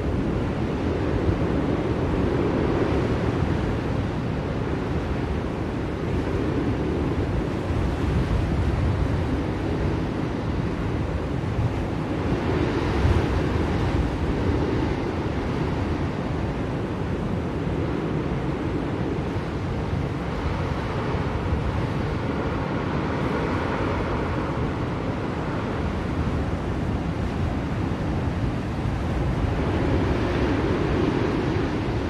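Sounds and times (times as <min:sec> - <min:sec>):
blizzard wind blowing: 0:00.0 - 0:32.0.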